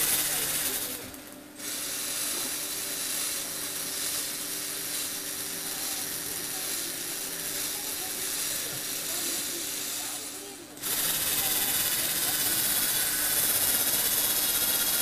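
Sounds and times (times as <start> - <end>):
toy motor whirring: 0.0 - 15.0.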